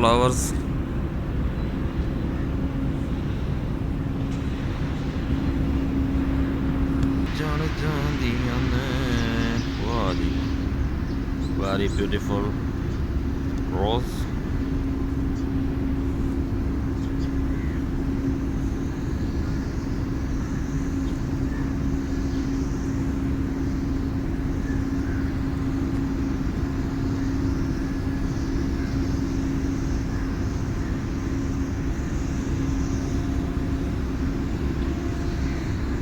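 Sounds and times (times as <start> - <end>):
motor machinery rumbling: 0.0 - 36.0.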